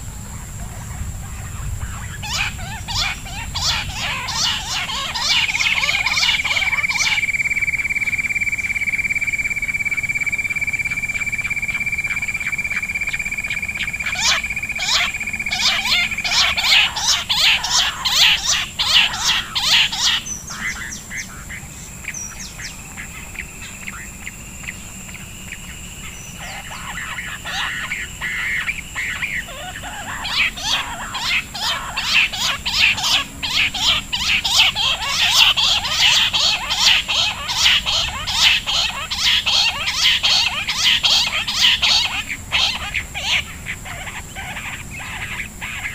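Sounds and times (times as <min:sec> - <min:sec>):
quail chattering calls: 0:00.0 - 0:45.9
steady high whine: 0:00.0 - 0:45.9.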